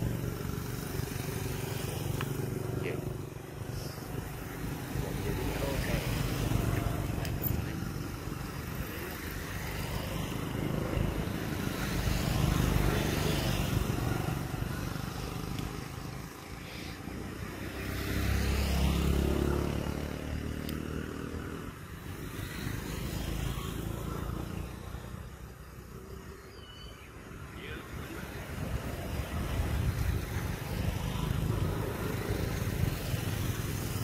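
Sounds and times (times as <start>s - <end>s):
passing vehicle engines rumbling: 0.0s - 34.0s.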